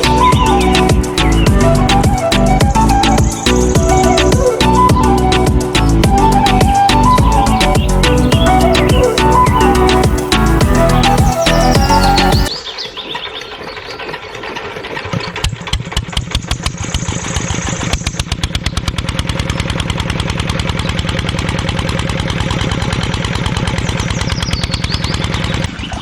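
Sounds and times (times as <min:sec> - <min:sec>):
small engine starting and running: 0:00.0 - 0:26.0.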